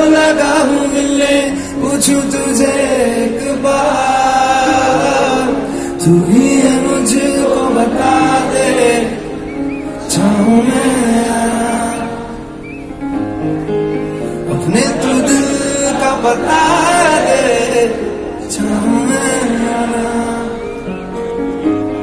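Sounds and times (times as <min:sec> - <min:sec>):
man singing: 0:00.0 - 0:12.5, 0:14.4 - 0:21.0
piano chords: 0:00.0 - 0:22.0.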